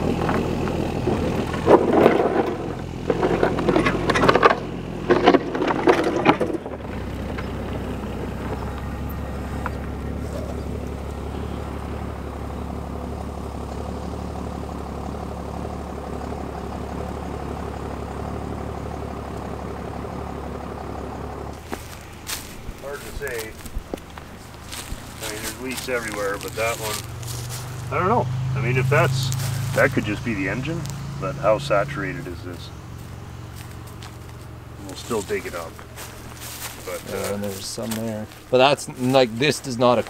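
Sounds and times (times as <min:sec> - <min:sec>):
diesel engine revving: 0:00.0 - 0:40.0.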